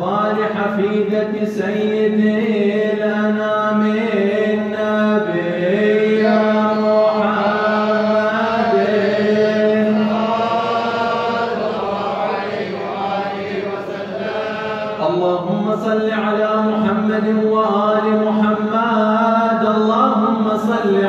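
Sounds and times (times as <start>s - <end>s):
man chanting through loudspeakers: 0.0s - 21.0s.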